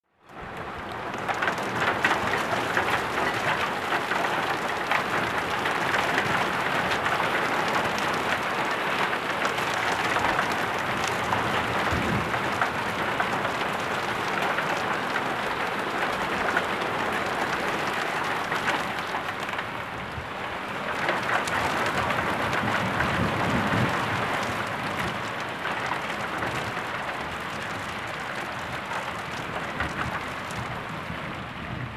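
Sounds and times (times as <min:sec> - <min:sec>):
heavy rain on leaves and paving: 0:00.0 - 0:31.9.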